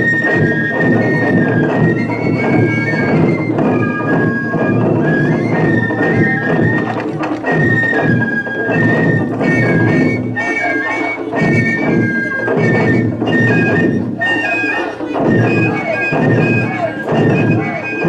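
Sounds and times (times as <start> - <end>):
high piping melody: 0.0 - 18.0
taiko drums struck with sticks: 0.0 - 18.0.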